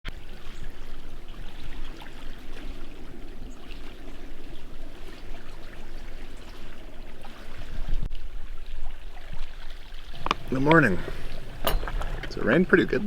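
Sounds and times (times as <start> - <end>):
small water splashes: 0.1 - 13.0
water lapping and trickling: 0.1 - 13.0.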